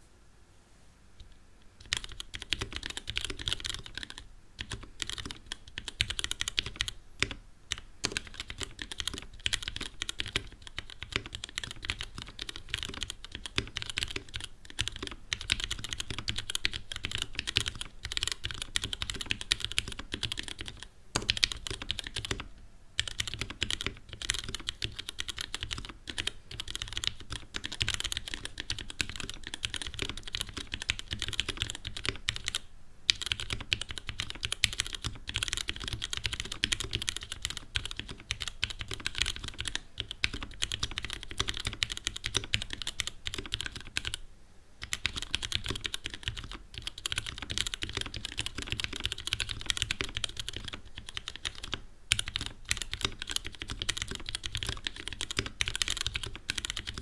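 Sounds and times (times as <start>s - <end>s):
fast typing on mechanical keyboard: 1.2s - 44.2s, 44.8s - 57.0s.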